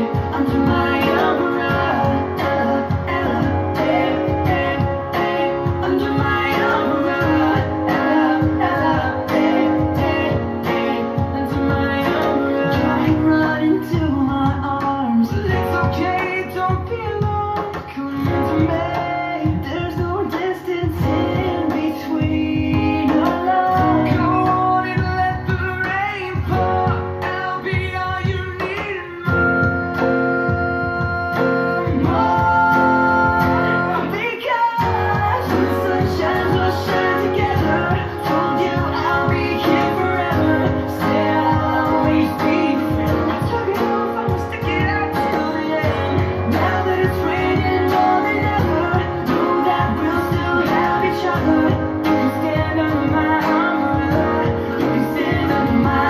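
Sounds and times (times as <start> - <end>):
guitar song with singing: 0.0 - 56.0.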